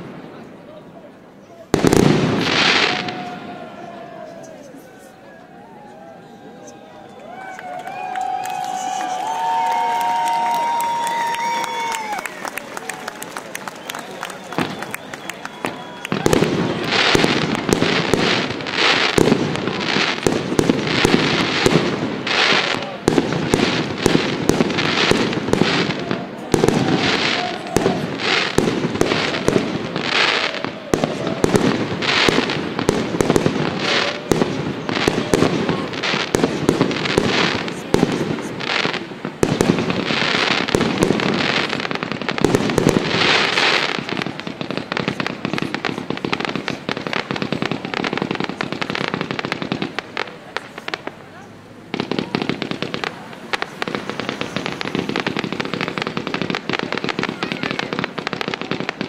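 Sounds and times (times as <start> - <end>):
fireworks bangs: 0.0 - 59.0
fireworks crackling and hissing: 0.0 - 59.0.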